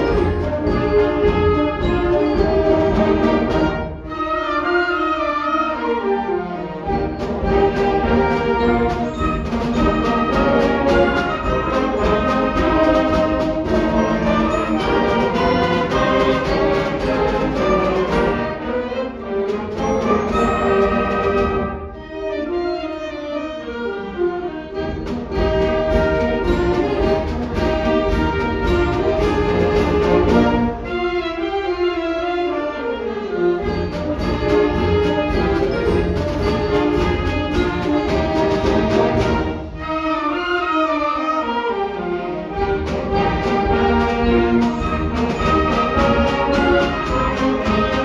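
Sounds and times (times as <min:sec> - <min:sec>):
concert band playing: 0:00.0 - 0:23.2, 0:24.0 - 0:31.8, 0:33.3 - 0:48.0.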